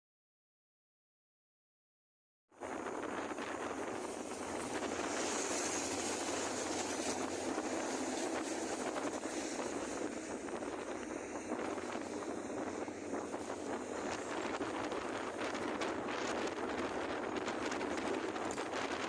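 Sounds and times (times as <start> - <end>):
wind rushing over microphone: 2.5 - 19.0
engine drone: 2.6 - 19.0.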